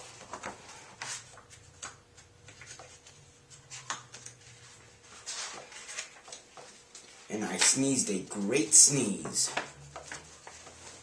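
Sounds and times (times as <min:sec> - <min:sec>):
book pages rustling: 0:00.0 - 0:11.0.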